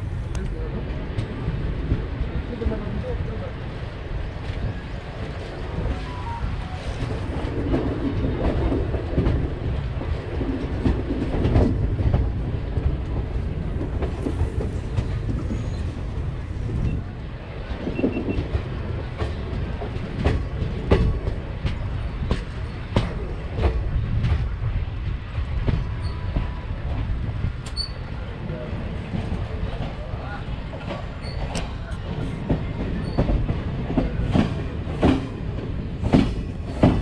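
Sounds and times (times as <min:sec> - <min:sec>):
train wheels rumbling on rail: 0:00.0 - 0:37.0
clickety-clack over rail joints: 0:00.2 - 0:05.6, 0:06.9 - 0:37.0.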